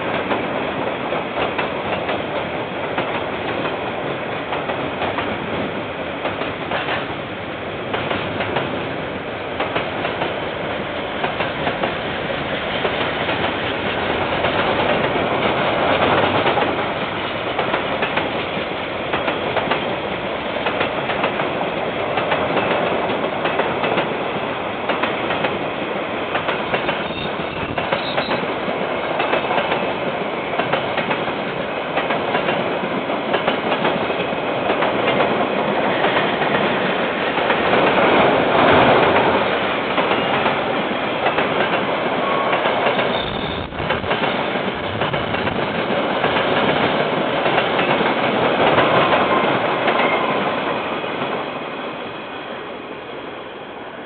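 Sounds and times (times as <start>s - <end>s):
train wagons clattering over rails: 0.0s - 5.6s, 6.2s - 7.2s, 7.8s - 8.9s, 9.5s - 51.5s.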